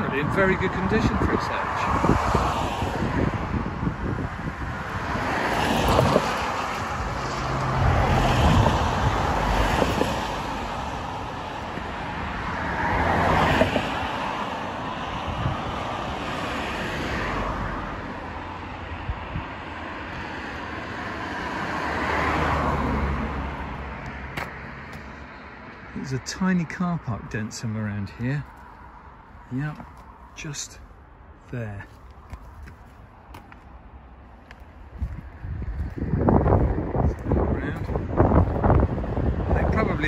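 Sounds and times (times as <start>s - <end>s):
vehicles passing by: 0.0s - 40.0s.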